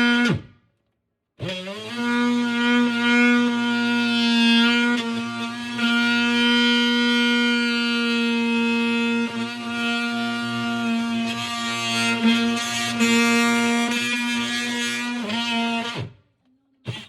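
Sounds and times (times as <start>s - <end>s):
oscillating multi-tool buzzing: 1.4s - 16.1s.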